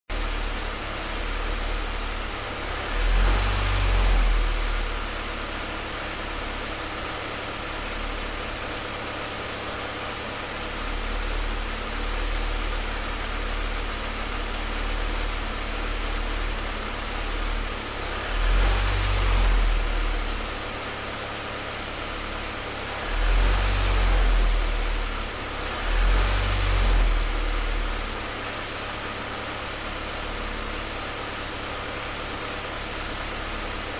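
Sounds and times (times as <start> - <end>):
car engine idling roughly: 0.1 - 33.9.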